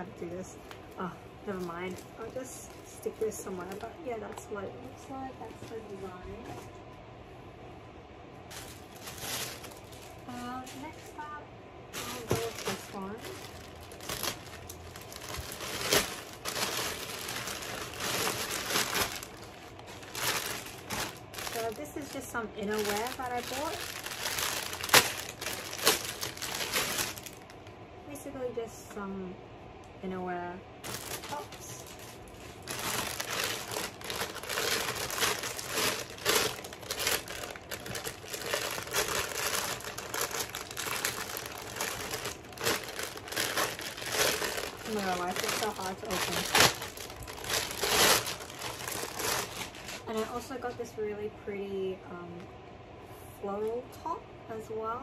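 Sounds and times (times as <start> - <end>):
plastic bags crinkling and rustling: 0.0 - 6.7, 8.4 - 11.2, 12.0 - 27.7, 30.8 - 50.6.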